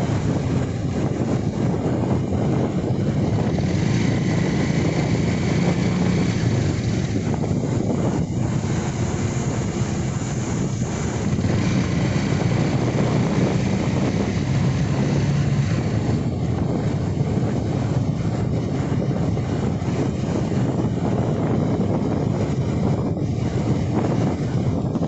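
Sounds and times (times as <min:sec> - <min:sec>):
motorcycle engine hum: 0:00.0 - 0:25.0
wind rushing over microphone: 0:00.0 - 0:25.0.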